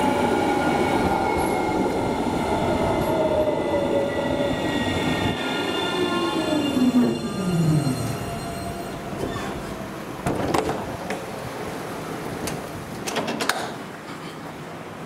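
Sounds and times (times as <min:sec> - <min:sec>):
tram electric drive whining: 0:00.0 - 0:12.8.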